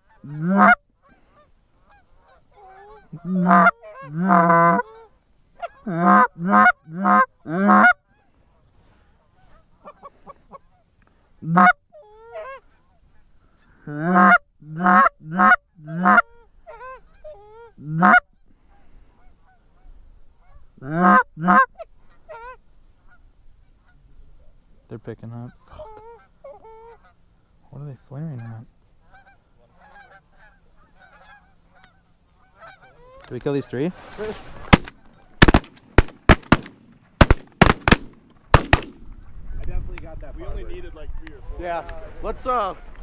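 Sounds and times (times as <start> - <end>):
geese honking: 0.0 - 24.2, 24.9 - 39.3.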